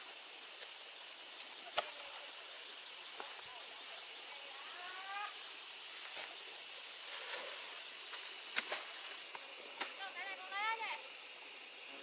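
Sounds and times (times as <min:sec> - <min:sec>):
high-pitched insect-like hum: 0:00.0 - 0:12.0.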